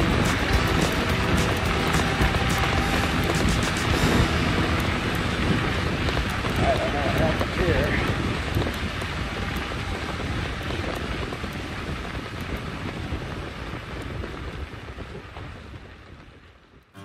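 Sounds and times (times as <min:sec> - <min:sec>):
bike tyres rolling on trail: 0:00.0 - 0:17.0
wind on microphone: 0:00.0 - 0:17.0.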